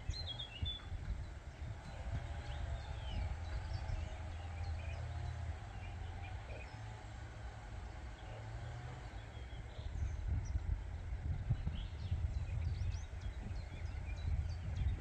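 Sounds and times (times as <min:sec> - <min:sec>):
songbirds chirping: 0:00.0 - 0:15.0
steady low rumble: 0:00.0 - 0:15.0.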